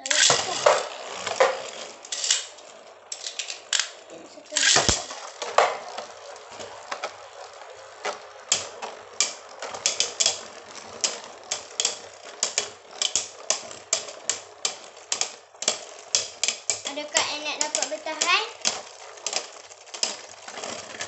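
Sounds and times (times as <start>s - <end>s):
spinning tops clacking: 0.0s - 21.0s.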